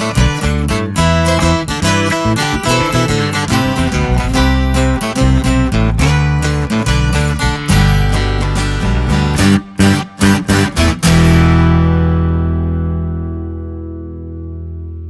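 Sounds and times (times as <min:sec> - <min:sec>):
guitar strumming: 0:00.0 - 0:15.0.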